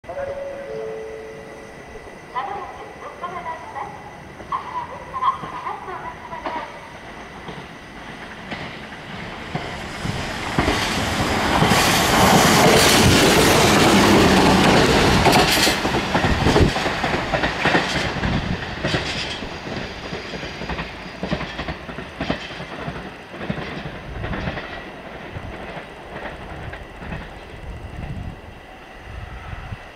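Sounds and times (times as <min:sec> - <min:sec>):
electric train passing: 0:00.0 - 0:29.9.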